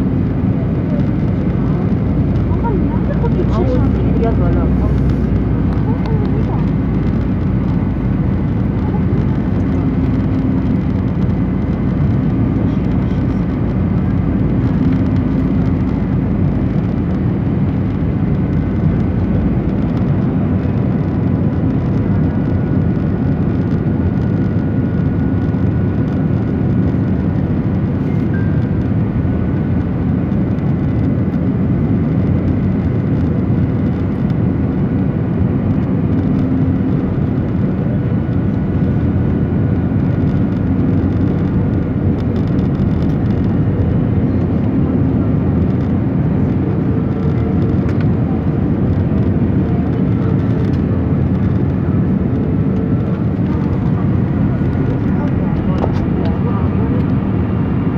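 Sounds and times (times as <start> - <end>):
aircraft cabin engine rush: 0.0 - 57.9
faint hum and whine: 0.0 - 57.9.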